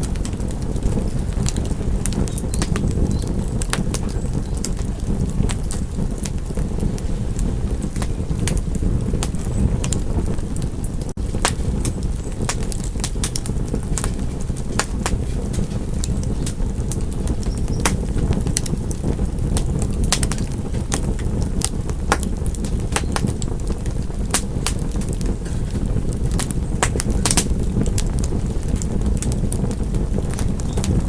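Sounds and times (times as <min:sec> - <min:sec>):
low rumble of flames: 0:00.0 - 0:31.0
wood fire crackling: 0:00.0 - 0:31.0.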